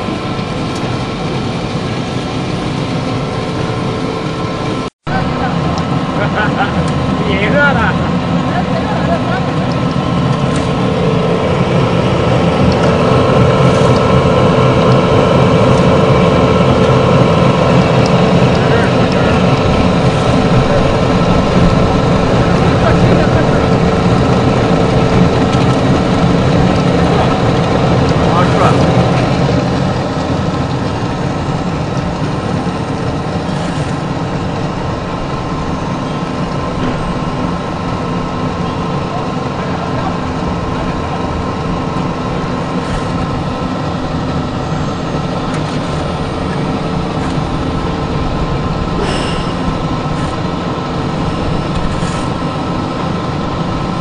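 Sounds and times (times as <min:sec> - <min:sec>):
pellet mill mechanical drone: 0:00.0 - 0:54.0.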